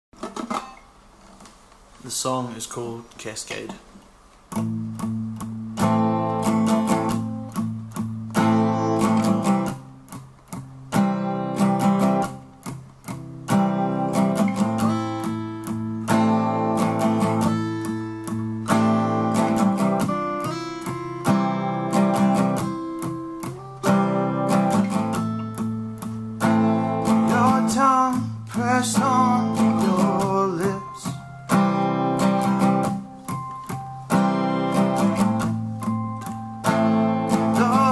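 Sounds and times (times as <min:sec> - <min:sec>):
acoustic guitars playing: 0:04.1 - 0:37.9.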